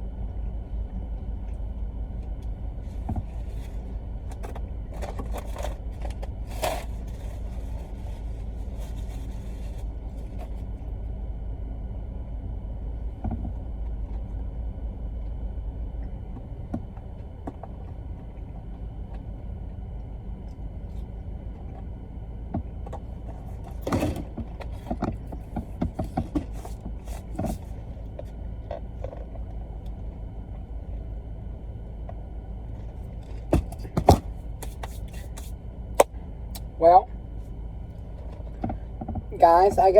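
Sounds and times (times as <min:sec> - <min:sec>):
car cabin engine rumble: 0:00.0 - 0:39.9.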